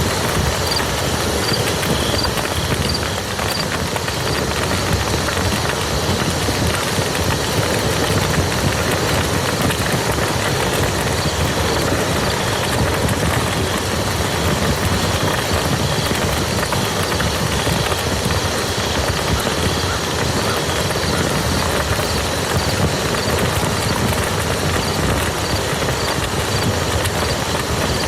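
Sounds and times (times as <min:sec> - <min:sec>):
rain pattering on a field: 0:00.0 - 0:28.0.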